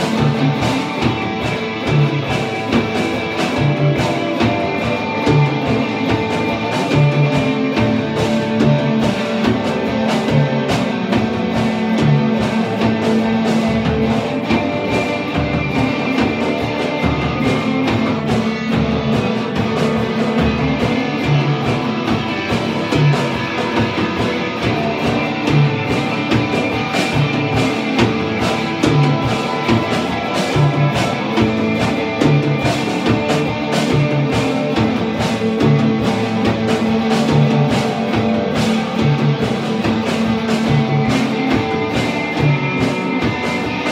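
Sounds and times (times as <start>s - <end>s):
drum hits: 0.0s - 43.9s
electric guitars playing: 0.0s - 43.9s.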